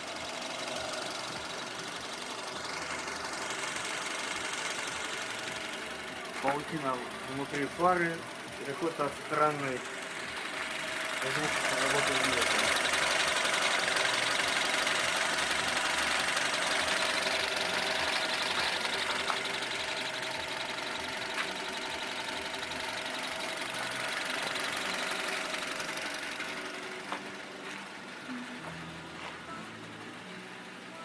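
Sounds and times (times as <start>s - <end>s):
petrol engine idling: 0.0s - 31.0s.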